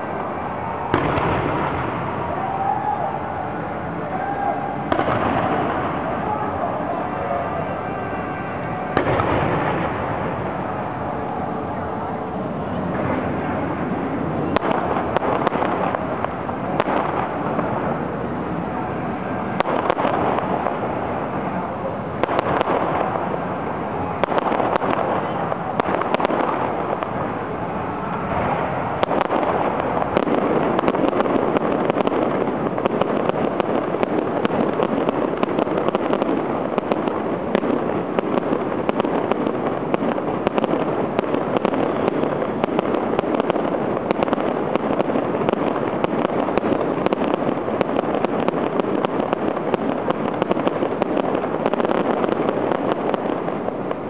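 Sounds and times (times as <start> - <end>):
fireworks popping and crackling: 0.0 - 54.0.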